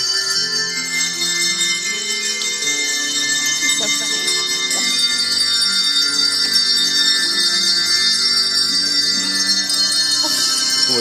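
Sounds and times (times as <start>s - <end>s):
handbell choir playing: 0.0s - 11.0s.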